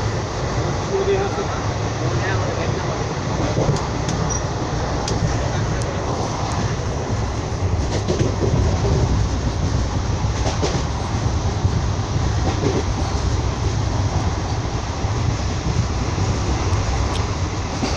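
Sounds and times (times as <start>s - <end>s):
passenger train rumbling: 0.0s - 17.9s.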